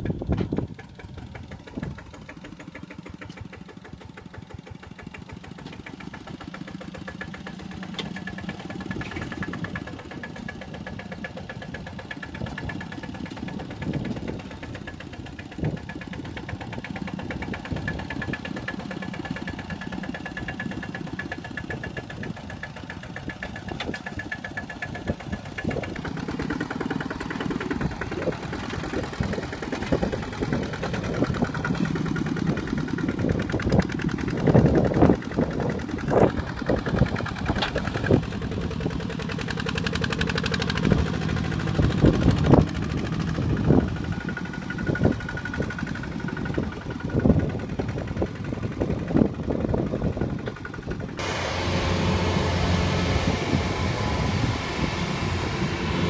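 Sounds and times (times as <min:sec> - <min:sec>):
diesel tractor engine under load: 0:00.0 - 0:56.0
wheels working through mud: 0:00.0 - 0:56.0.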